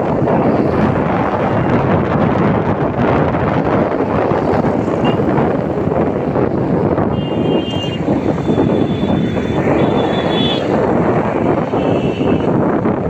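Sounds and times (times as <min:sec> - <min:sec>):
road traffic noise: 0:00.0 - 0:13.0
wind buffeting microphone: 0:00.0 - 0:13.0.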